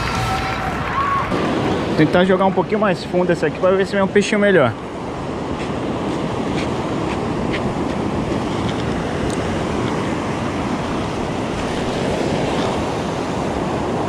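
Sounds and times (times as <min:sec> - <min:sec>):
ocean surf washing over sand: 0:00.0 - 0:14.0.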